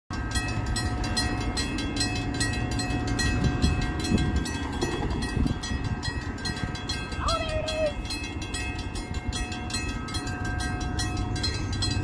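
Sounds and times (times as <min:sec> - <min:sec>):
crossing bell ringing: 0:00.1 - 0:12.0.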